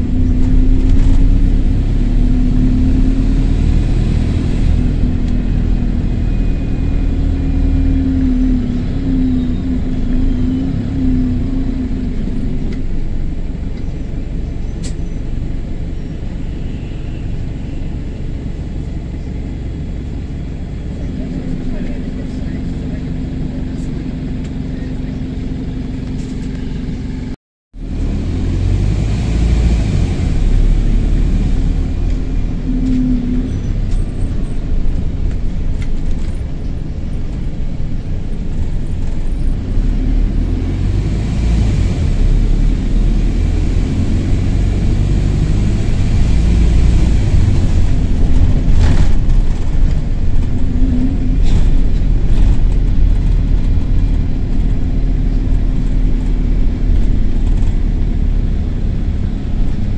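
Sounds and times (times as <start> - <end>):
bus diesel engine rumbling: 0.0 - 59.9
rough exhaust: 0.0 - 59.9.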